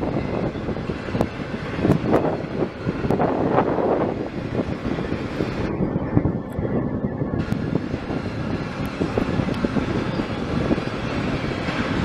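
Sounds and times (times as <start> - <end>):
freight train wheels rumbling on rail: 0.0 - 5.8, 7.4 - 12.0.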